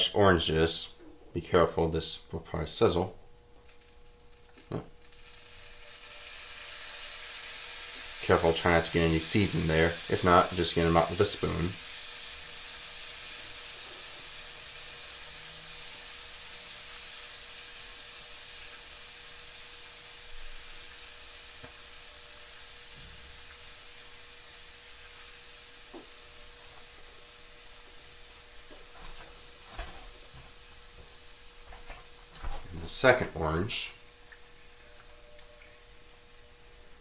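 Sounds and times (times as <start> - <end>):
juice sizzling in skillet: 3.5 - 37.0.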